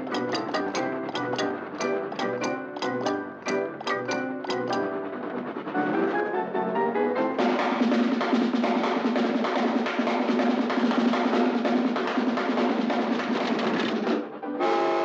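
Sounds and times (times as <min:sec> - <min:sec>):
music with drums and percussion: 0:00.0 - 0:05.6, 0:07.4 - 0:14.3.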